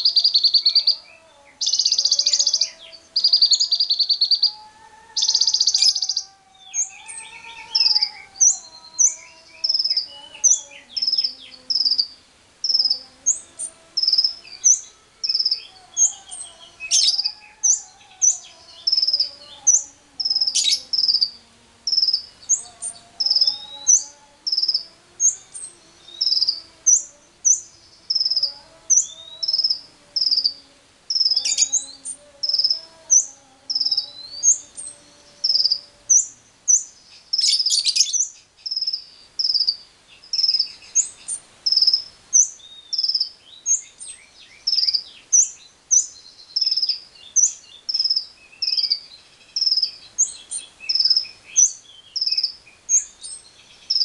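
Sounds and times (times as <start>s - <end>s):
birds chirping: 0.0s - 54.0s
falling bird calls: 0.0s - 54.0s.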